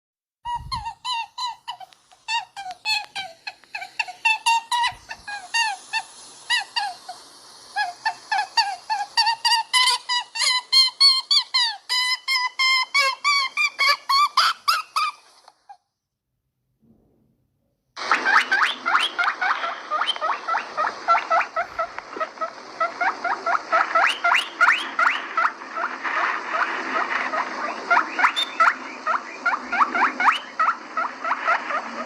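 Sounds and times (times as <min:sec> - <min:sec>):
rabbit squeaking: 0:00.4 - 0:15.8, 0:18.0 - 0:32.0.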